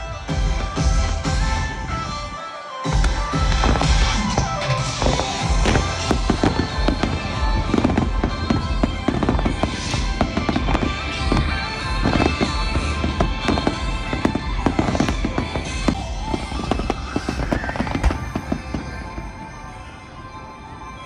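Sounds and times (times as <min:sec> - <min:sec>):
fireworks bangs and crackles: 0:00.0 - 0:20.7
music: 0:00.0 - 0:21.0.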